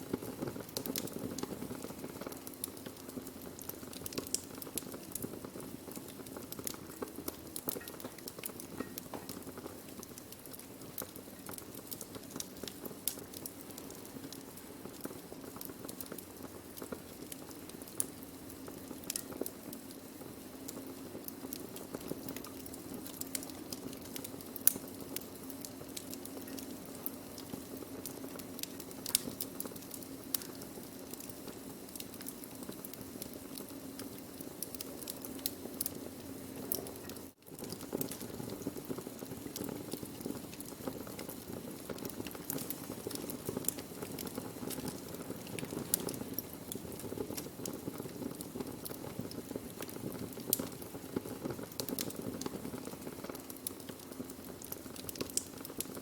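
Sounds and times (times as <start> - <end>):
low hiss of flames: 0.0 - 56.0
wood fire crackling and popping: 0.0 - 56.0.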